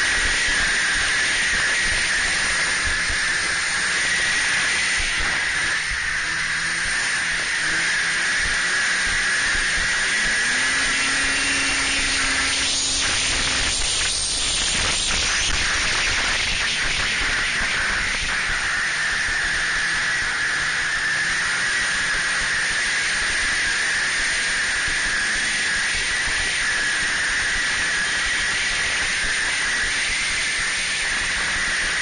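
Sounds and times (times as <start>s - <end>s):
high whine: 0.0s - 32.0s
snowmobile engine running: 0.0s - 32.0s.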